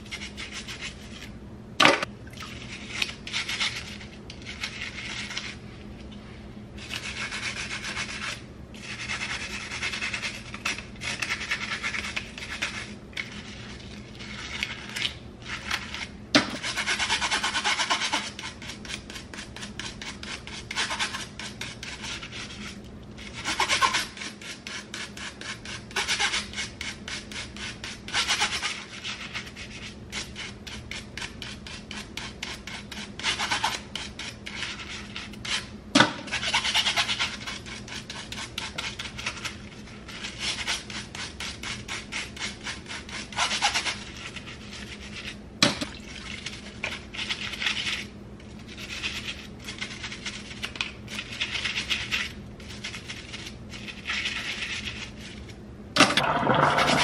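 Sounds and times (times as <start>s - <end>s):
brush scrubbing comb: 0.0s - 1.3s, 2.6s - 5.6s, 6.8s - 35.7s, 36.3s - 45.4s, 46.1s - 55.6s.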